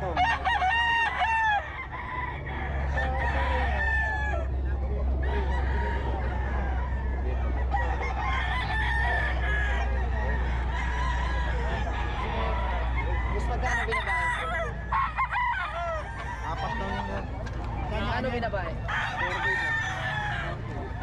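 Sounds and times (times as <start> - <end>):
roosters crowing: 0.0 - 21.0.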